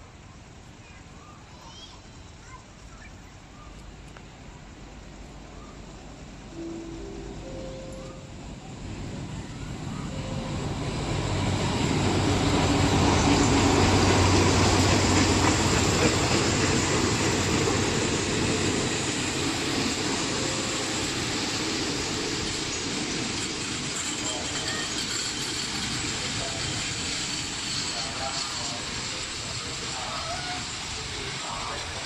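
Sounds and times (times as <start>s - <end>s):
locomotive engine hum: 3.4s - 32.0s
train wheels rumbling on rails: 3.9s - 32.0s.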